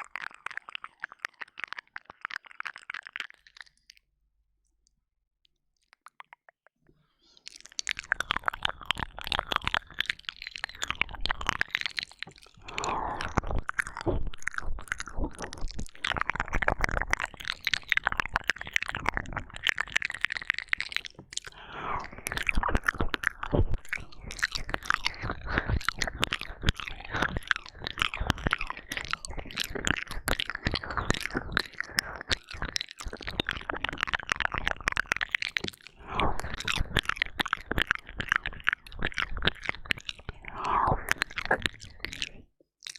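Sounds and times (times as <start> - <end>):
wet mouth clicks and slurps: 0.0 - 4.0, 5.8 - 6.5, 7.4 - 42.9.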